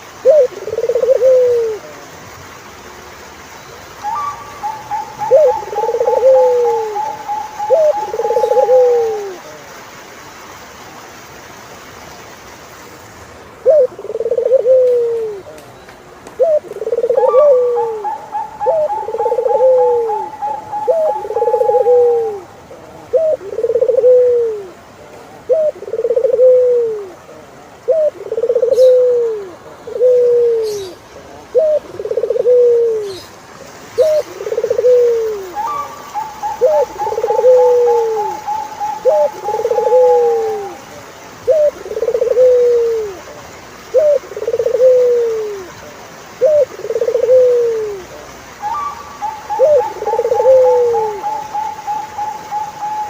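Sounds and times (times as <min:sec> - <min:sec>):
dove purring coos: 0:00.2 - 0:02.0, 0:04.0 - 0:09.5, 0:13.6 - 0:15.5, 0:16.4 - 0:24.8, 0:25.4 - 0:33.2, 0:34.0 - 0:43.3, 0:43.9 - 0:45.7, 0:46.4 - 0:53.0.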